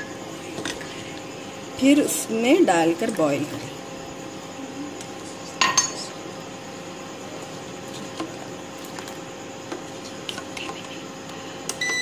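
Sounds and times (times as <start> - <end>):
steady hiss and low hum: 0.0 - 12.0.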